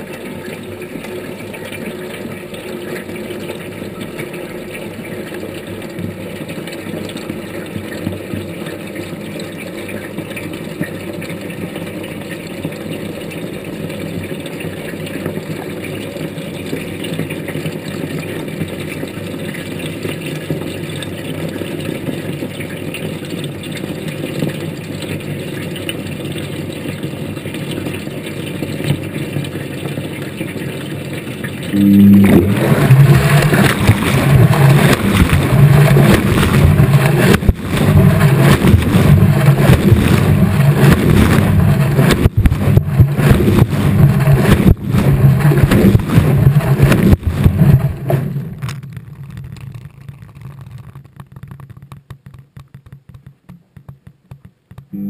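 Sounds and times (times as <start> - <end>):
washing machine churning: 0.0 - 48.9.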